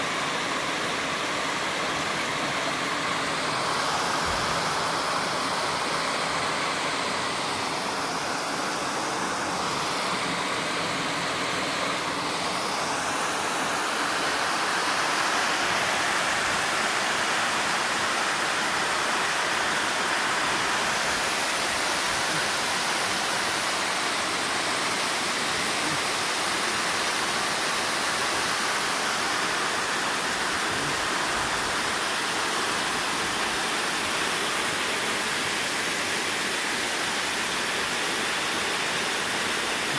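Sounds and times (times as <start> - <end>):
water rushing down spillway: 0.0 - 39.9.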